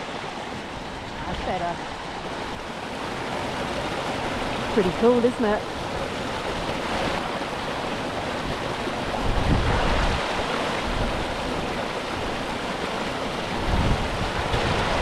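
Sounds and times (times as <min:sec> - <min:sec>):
waterfall rushing: 0:00.0 - 0:15.0
wind buffeting the microphone: 0:00.0 - 0:15.0.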